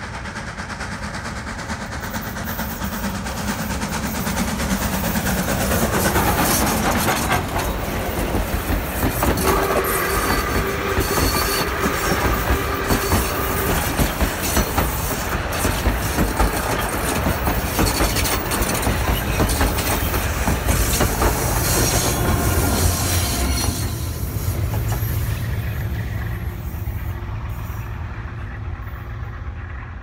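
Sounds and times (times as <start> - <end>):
train wheels clattering over rail joints: 0.0 - 26.2
diesel locomotive engine rumble: 0.0 - 30.0.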